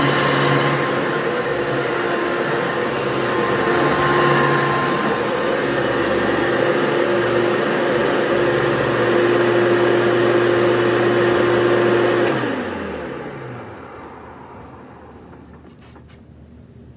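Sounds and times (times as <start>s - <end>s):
vacuum cleaner running: 0.0s - 15.4s.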